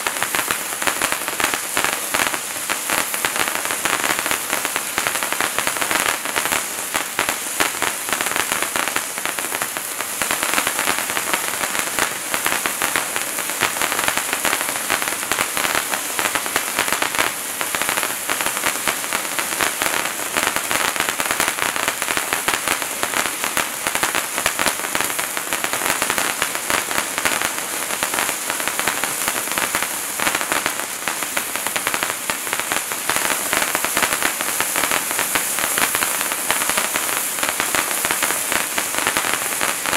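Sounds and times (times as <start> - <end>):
hand-held firework hissing sparks: 0.0 - 39.9.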